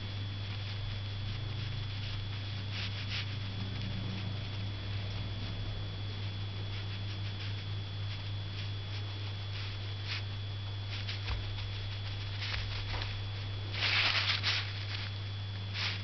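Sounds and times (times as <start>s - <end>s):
low electrical hum: 0.0s - 16.0s
paint brush scratching on paper: 0.6s - 5.0s, 6.2s - 16.0s.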